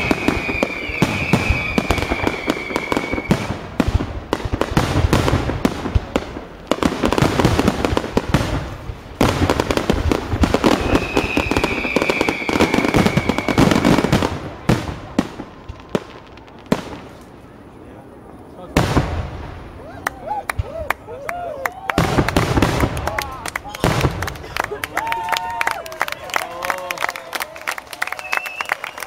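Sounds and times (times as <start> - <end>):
high whistling firework: 0.0 - 25.8, 27.9 - 29.0
fireworks crackling and banging: 0.0 - 29.0.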